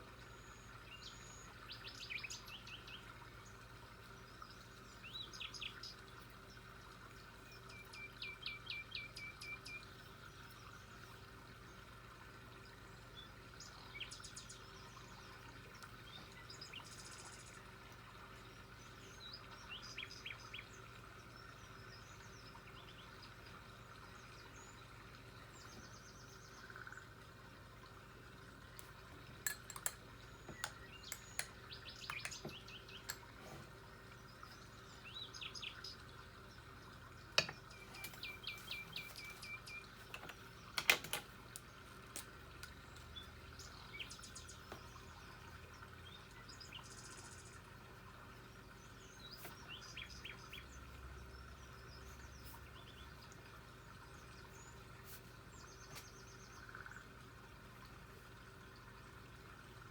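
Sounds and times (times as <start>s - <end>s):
faint birds chirping: 0.0s - 59.9s.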